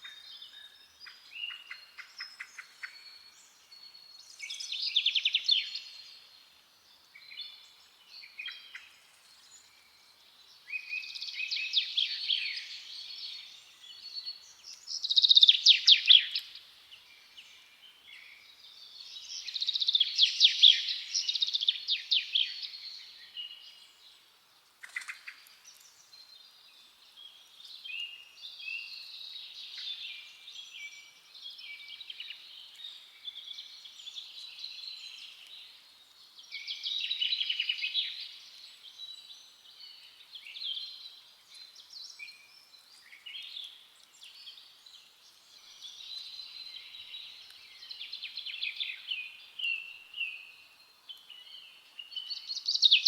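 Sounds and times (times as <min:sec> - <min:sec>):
songbirds singing and trilling: 0:00.0 - 0:53.0.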